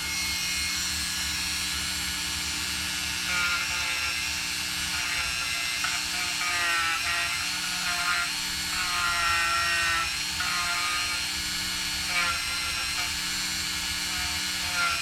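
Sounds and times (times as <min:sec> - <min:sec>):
rotary tool grinding: 0:00.0 - 0:15.0.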